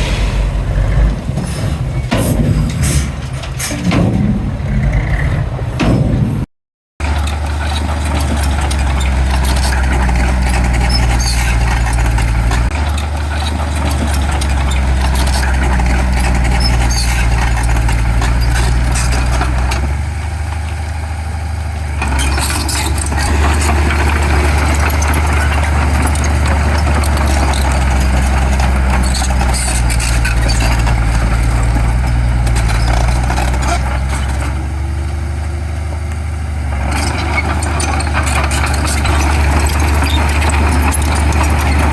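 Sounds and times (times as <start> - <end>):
machinery clatter: 0.0 - 20.8, 21.8 - 34.9, 35.9 - 41.9
diesel construction machinery droning: 0.0 - 41.9.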